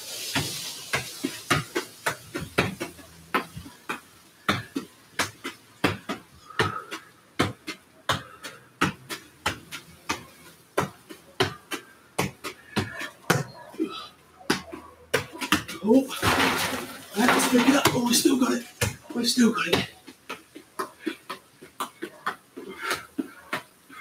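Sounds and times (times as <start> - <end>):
football thuds: 0.3 - 13.6, 14.5 - 23.8.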